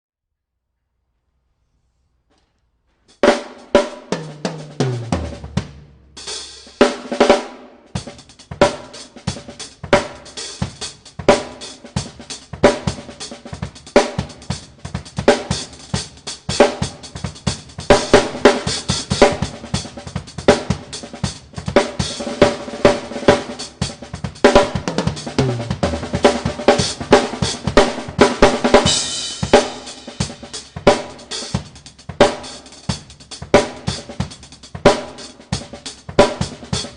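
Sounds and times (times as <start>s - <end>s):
tom fills: 2.3s - 36.9s
drum kit playing: 3.1s - 36.9s.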